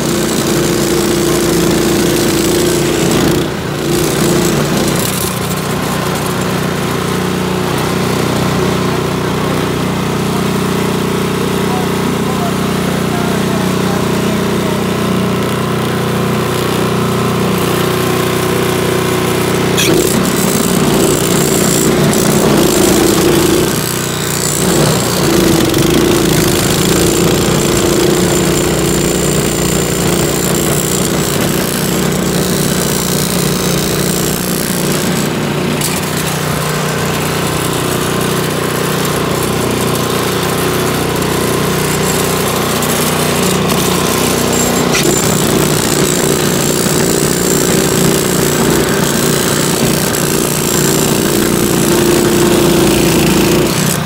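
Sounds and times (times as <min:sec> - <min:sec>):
auger churning snow: 0:00.0 - 0:54.0
snow blower engine running: 0:00.0 - 0:54.0.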